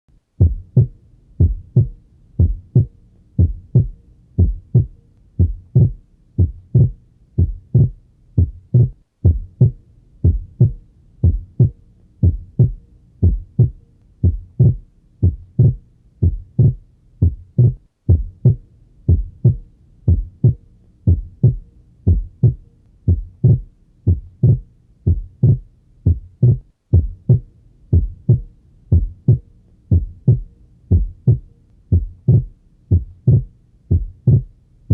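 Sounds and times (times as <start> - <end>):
heartbeat lub-dub: 0.4 - 34.9.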